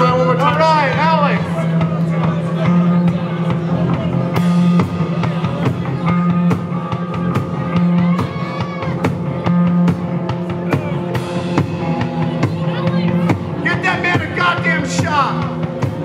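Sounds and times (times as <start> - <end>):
drum kit beat: 0.0 - 16.0
rock band playing: 0.0 - 16.0.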